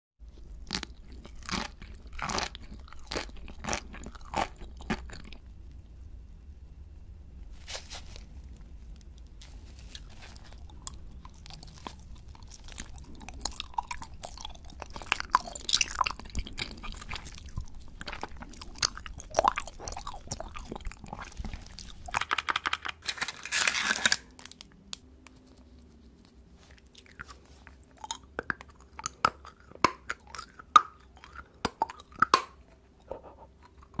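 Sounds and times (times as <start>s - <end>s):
crunching and chewing candy: 0.2s - 5.5s, 7.6s - 34.0s.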